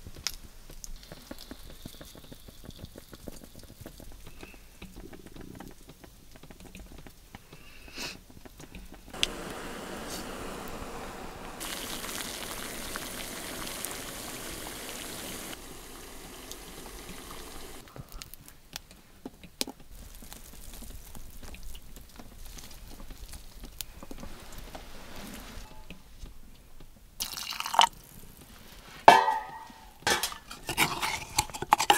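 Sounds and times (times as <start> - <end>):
small fire hissing and crackling: 0.0 - 29.1.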